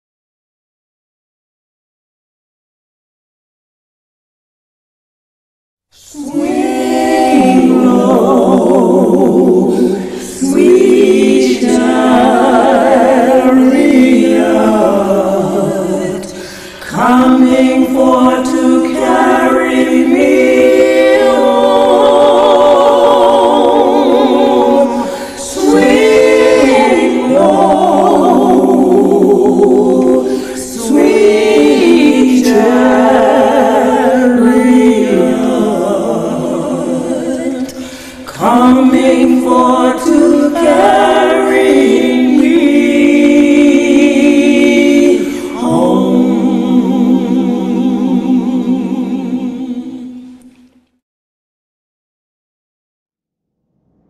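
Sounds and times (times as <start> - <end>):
choir singing: 5.9 - 50.6.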